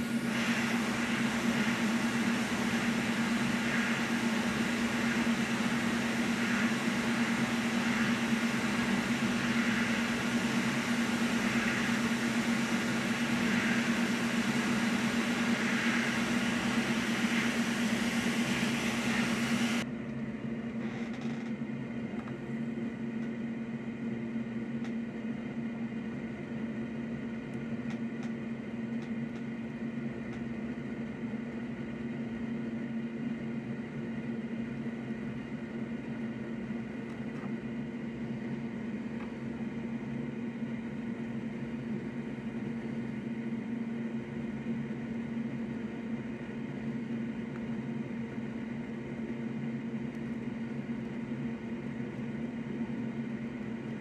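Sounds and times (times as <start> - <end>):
fan whirring hum: 0.0 - 54.0
quiet hum with steady tones: 0.0 - 54.0.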